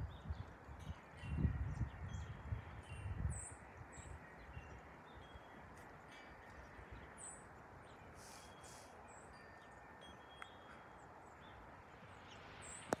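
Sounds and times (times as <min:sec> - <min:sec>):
bird chirps: 0:01.7 - 0:13.0.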